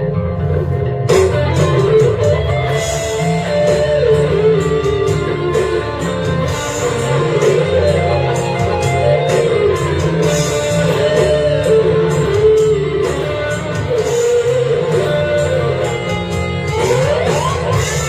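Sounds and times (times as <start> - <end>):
electric guitar lead bending notes: 0.0 - 18.0
rock band playing: 0.0 - 18.0.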